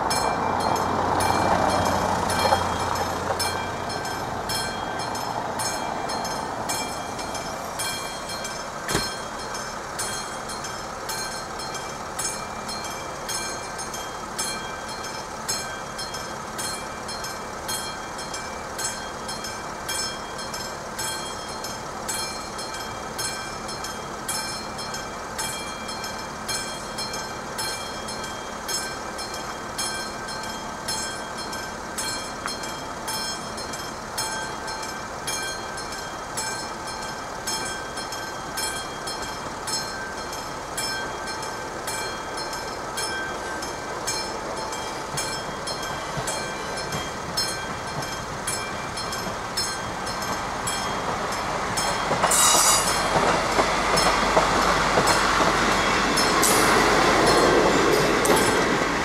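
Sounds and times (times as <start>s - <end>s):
level crossing warning bell ringing: 0.0s - 59.0s.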